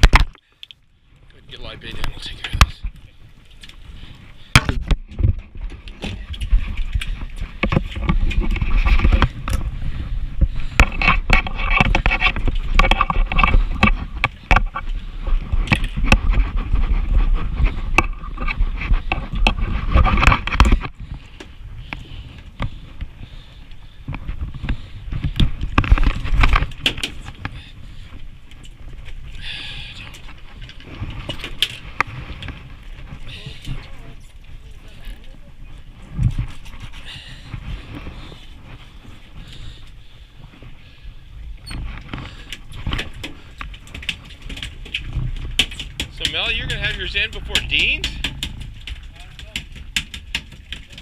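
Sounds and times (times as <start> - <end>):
rubbing and scraping on microphone: 1.5 - 51.0.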